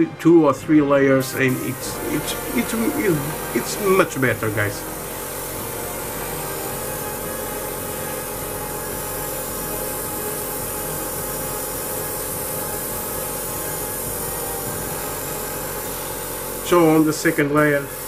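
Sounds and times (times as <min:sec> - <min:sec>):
airbrush spraying hiss: 0:01.2 - 0:18.0.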